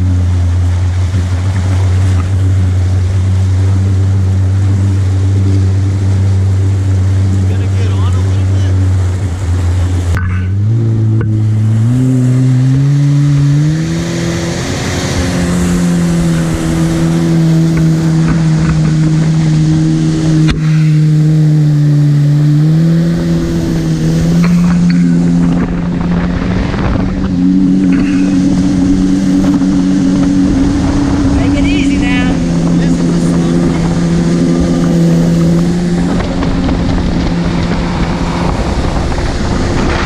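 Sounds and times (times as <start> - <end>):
jet ski engine running: 0.0 - 40.0.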